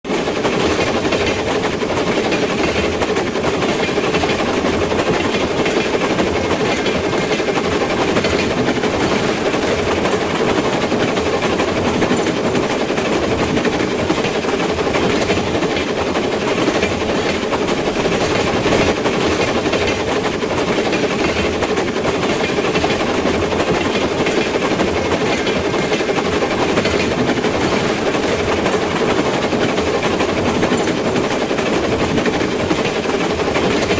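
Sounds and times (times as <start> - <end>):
train rumbling on track: 0.0 - 33.9.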